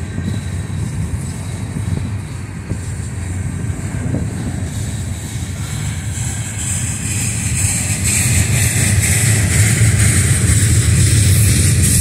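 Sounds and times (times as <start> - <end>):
hiss: 0.0 - 12.0
steel wheels rumbling on rail: 0.0 - 12.0.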